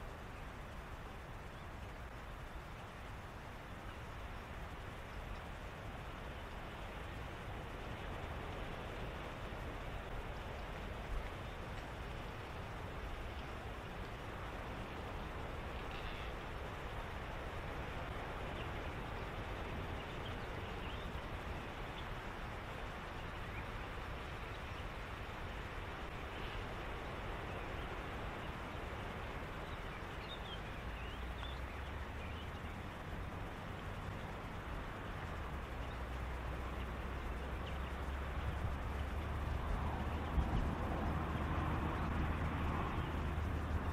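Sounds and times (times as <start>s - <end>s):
steady hiss: 0.0s - 43.9s.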